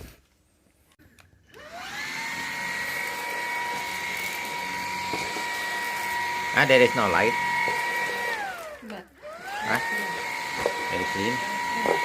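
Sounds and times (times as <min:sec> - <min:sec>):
vacuum cleaner motor whine: 0:01.5 - 0:12.0.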